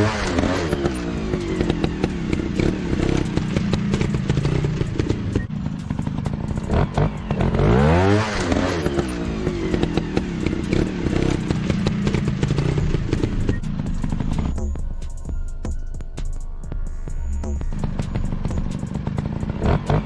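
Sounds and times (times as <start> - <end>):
dirt bike engine revving: 0.0 - 14.6, 17.4 - 20.0.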